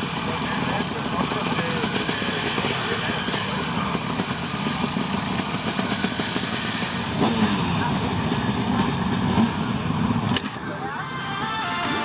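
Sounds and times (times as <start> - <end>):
sidecar engines idling: 0.0 - 12.0.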